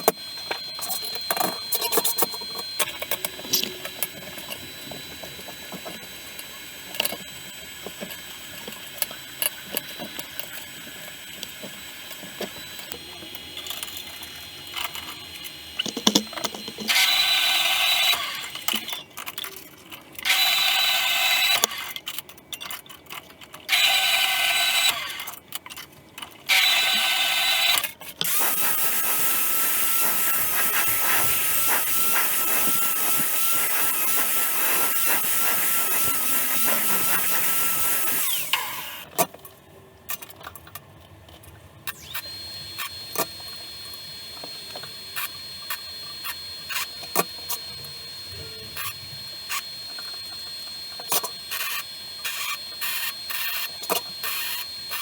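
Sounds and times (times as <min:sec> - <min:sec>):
electric power tool running: 0:00.0 - 0:19.0, 0:20.2 - 0:22.0, 0:23.7 - 0:25.3, 0:26.5 - 0:39.1, 0:41.9 - 0:55.0.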